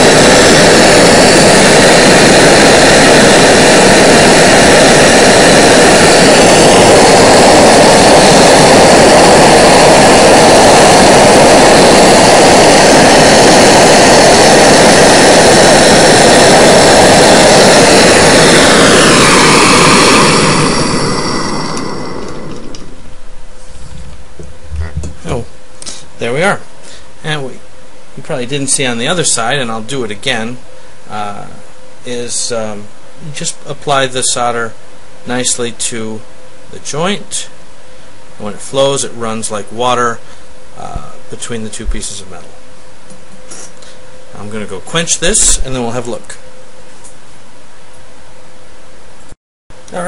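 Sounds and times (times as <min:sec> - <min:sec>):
gas torch roaring: 0:00.0 - 0:36.2, 0:36.8 - 0:46.6.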